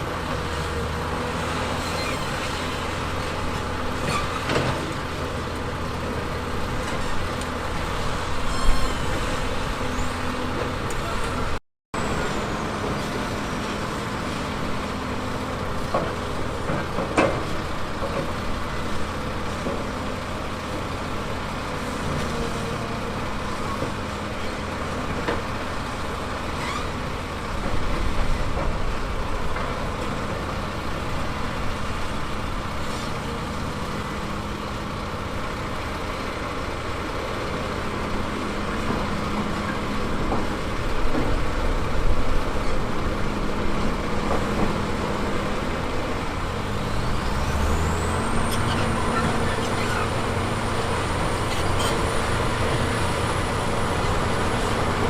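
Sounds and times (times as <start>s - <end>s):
diesel machinery engine rumble: 0.0s - 55.0s.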